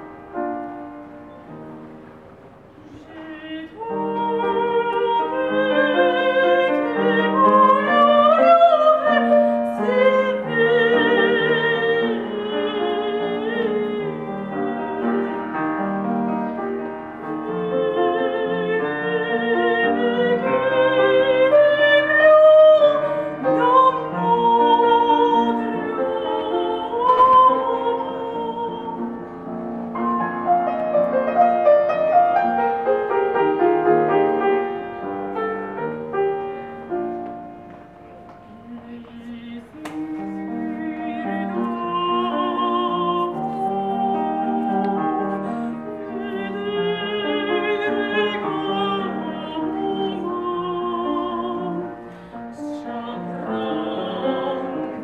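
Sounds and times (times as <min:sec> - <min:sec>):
grand piano: 0:00.0 - 0:55.0
woman singing opera: 0:02.8 - 0:37.5, 0:38.2 - 0:55.0.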